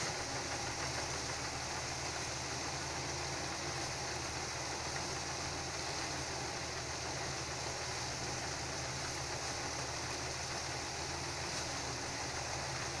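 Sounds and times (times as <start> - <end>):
broad hiss: 0.0 - 13.0
threshing machine engine drone: 0.0 - 13.0.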